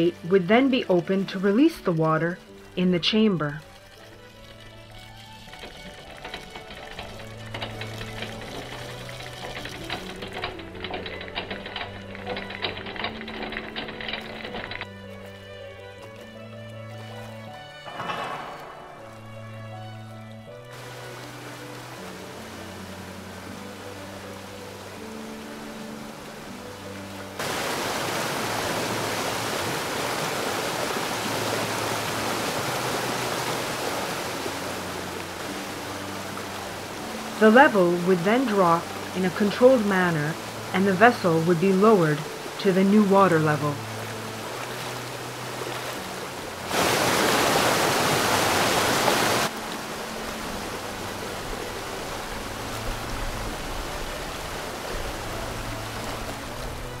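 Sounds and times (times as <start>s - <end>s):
water rushing through sluices: 0.0s - 57.0s.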